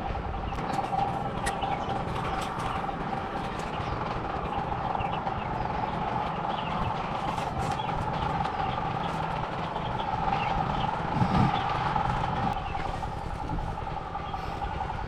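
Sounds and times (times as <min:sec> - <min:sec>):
vehicle hum: 0:00.0 - 0:15.0.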